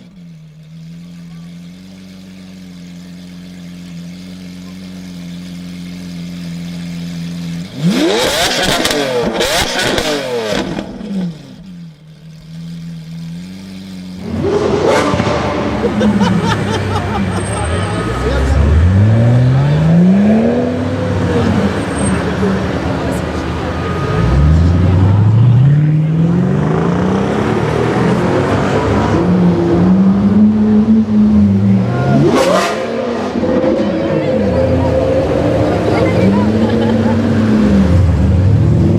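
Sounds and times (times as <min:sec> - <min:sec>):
sports car engine revving: 0:00.0 - 0:38.9.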